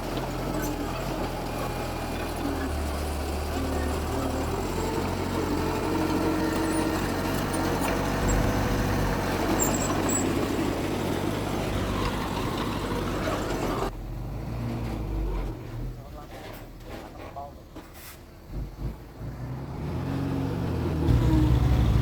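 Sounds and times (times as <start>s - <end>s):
heavy diesel engine running: 0.0s - 14.3s, 16.0s - 22.0s.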